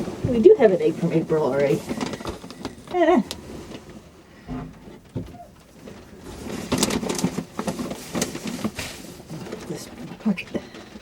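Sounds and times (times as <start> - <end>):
rustling and clatter: 0.0 - 11.0.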